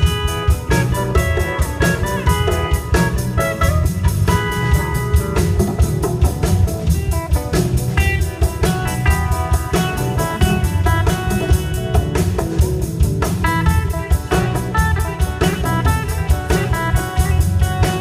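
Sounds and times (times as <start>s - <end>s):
bass guitar: 0.0s - 18.0s
drum kit beat: 0.0s - 18.0s
electric guitars melody: 0.0s - 18.0s.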